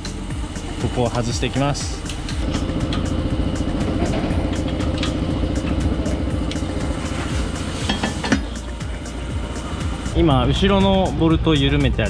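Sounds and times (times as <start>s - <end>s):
power ratchet running: 0.0s - 11.1s.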